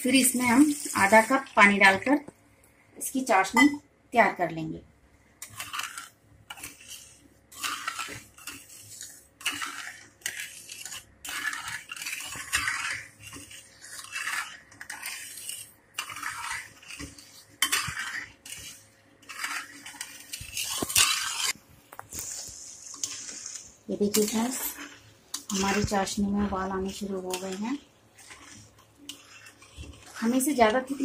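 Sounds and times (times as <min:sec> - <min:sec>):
metal utensils scraping a pan: 0:00.0 - 0:02.1, 0:05.4 - 0:21.6, 0:22.2 - 0:31.0.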